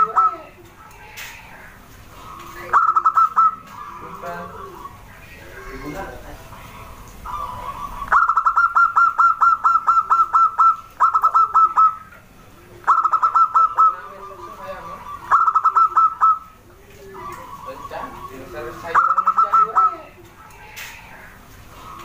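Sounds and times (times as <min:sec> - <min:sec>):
dove rapid staccato coos: 0:00.0 - 0:05.2, 0:06.6 - 0:22.0.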